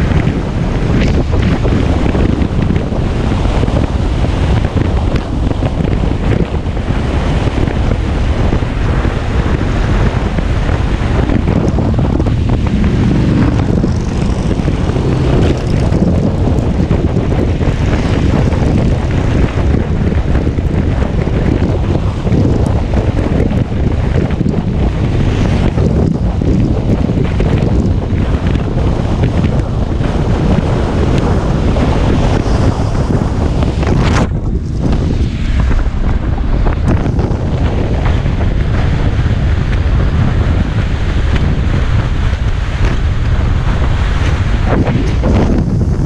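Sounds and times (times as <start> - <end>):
heavy wind noise on microphone: 0.0 - 46.0.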